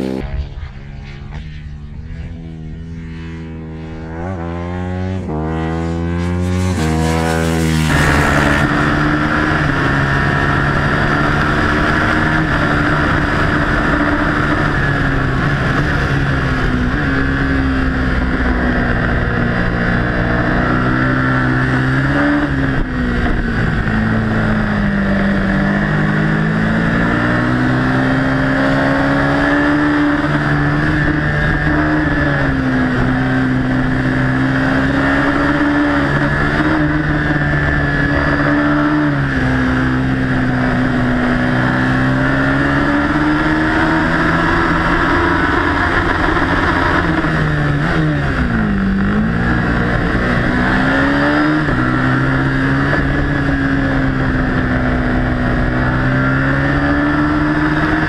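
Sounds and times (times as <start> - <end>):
motorcycle engine running hard: 0.0 - 58.0.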